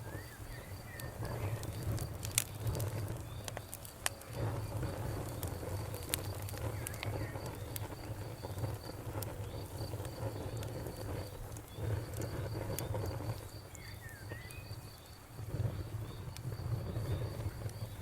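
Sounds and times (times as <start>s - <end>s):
bonfire crackling and popping: 0.0s - 18.0s
cricket chirping: 0.0s - 18.0s
low steady rumble: 0.0s - 18.0s.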